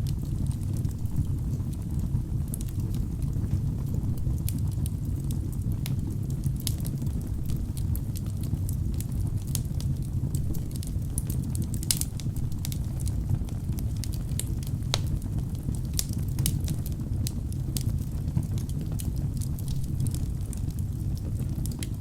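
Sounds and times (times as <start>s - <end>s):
flames rushing: 0.0s - 22.0s
logs crackling and popping: 0.0s - 22.0s.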